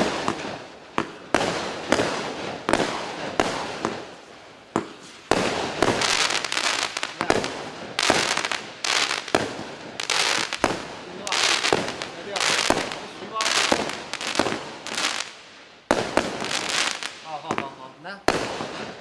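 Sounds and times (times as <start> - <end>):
firework cake firing bangs: 0.0 - 15.3, 15.9 - 17.7, 18.3 - 19.0
firework crackling: 0.0 - 19.0.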